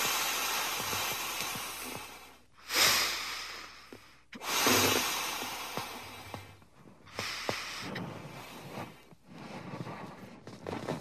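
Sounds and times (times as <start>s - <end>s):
person blowing up balloon: 0.0s - 9.9s.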